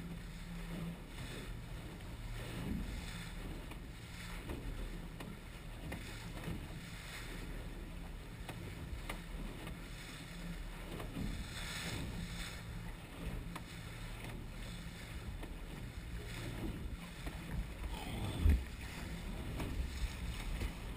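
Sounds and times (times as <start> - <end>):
boat motor running: 0.0 - 20.9
waves splashing against hull: 0.0 - 20.9.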